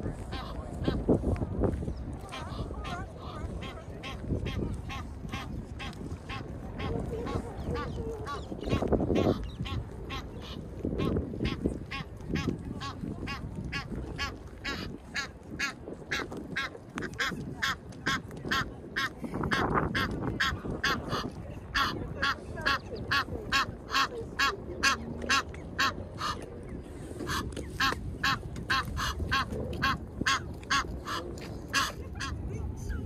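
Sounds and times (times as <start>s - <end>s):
low background rumble: 0.0s - 33.0s
waterfowl quacking: 0.2s - 1.0s, 2.3s - 32.4s.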